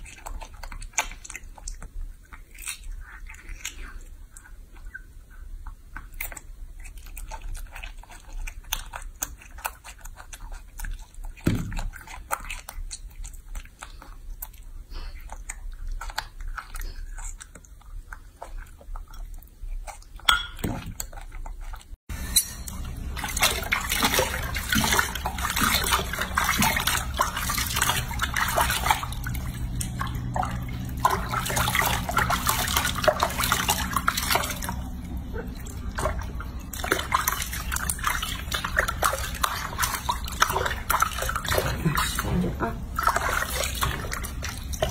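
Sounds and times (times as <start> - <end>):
monkey chewing fruit: 0.0 - 44.9
water splashing in a sink: 0.0 - 44.9.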